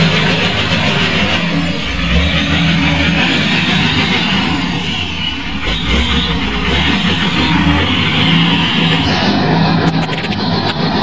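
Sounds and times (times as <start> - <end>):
wheel loader diesel engine running: 0.0 - 11.0.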